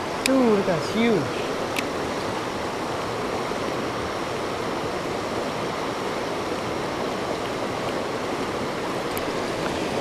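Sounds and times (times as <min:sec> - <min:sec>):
river water rushing over weir: 0:00.0 - 0:10.0.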